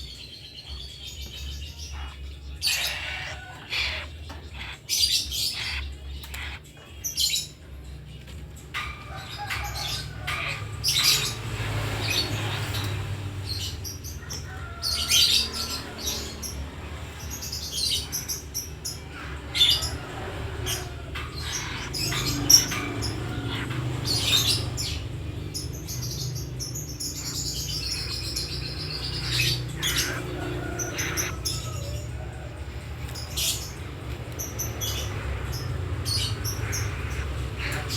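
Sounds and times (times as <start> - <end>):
bird chirps and squawks: 0.6 - 7.6, 8.7 - 32.3, 33.0 - 37.9.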